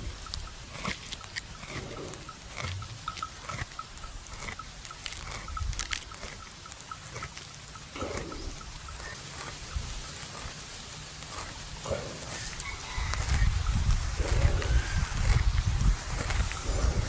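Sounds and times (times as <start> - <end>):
buffalo chewing: 0.0 - 17.0.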